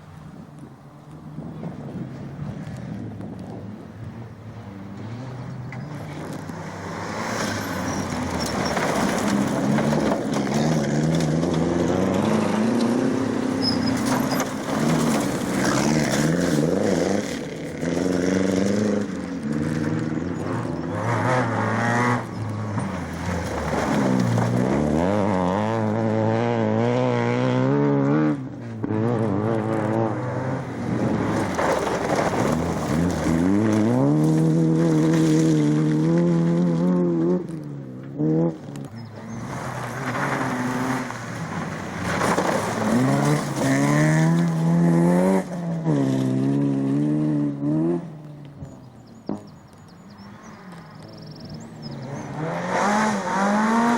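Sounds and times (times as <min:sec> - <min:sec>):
rally car engine accelerating: 0:03.4 - 0:53.9.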